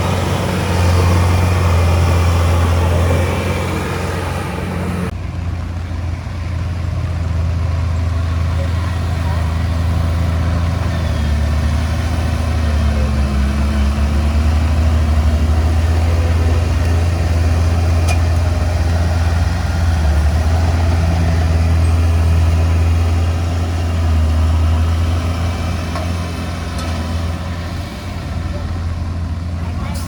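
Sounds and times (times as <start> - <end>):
heavy diesel engine droning: 0.0 - 30.0.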